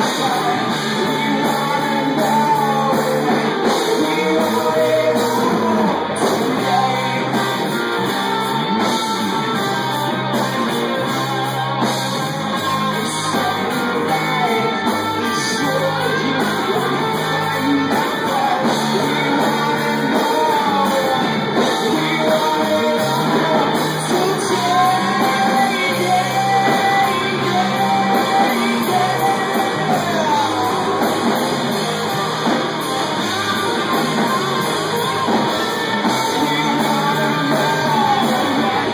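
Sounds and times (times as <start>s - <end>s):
distorted electric guitars: 0.0s - 38.9s
drums: 0.0s - 38.9s
person singing: 0.0s - 38.9s.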